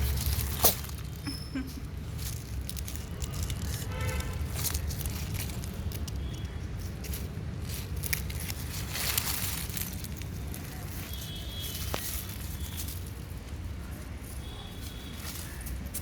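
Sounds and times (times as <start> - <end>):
dry leaves crackling and rustling: 0.0 - 16.0.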